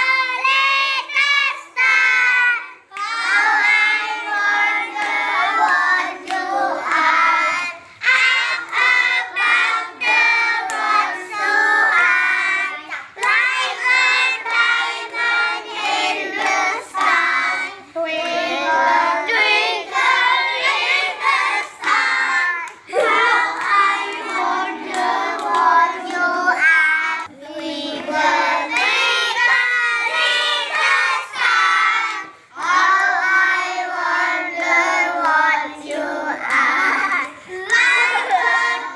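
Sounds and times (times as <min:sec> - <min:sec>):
children singing together: 0:00.0 - 0:38.9.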